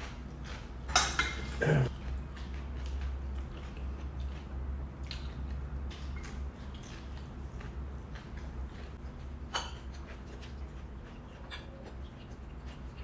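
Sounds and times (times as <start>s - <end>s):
steady low hum: 0.0s - 13.0s
chewing: 1.5s - 13.0s.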